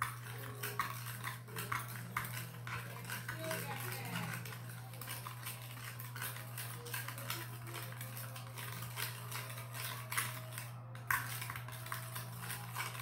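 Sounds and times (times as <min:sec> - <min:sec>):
spoon stirring in plastic bowl: 0:00.0 - 0:13.0.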